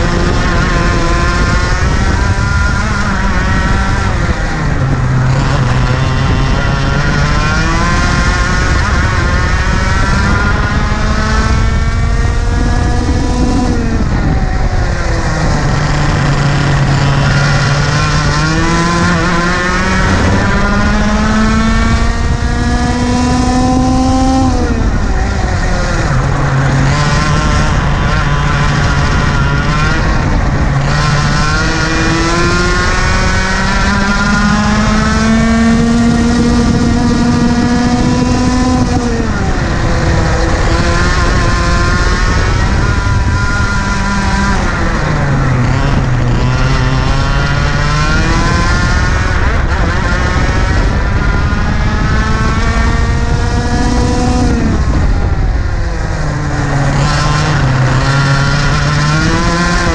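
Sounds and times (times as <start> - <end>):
kart engine at racing speed: 0.0 - 59.9
wind rush: 0.0 - 59.9.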